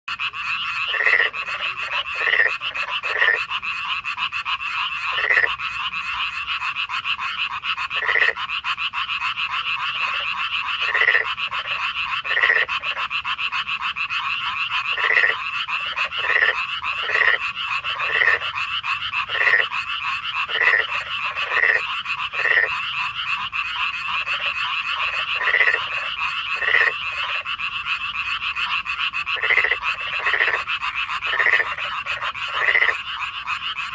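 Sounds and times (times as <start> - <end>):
frogs trilling: 0.1 - 33.9
single frog croaks: 0.1 - 33.9.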